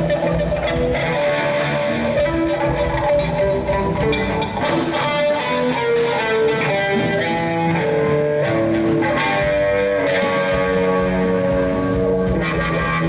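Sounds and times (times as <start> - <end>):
guitar melody: 0.0 - 13.0.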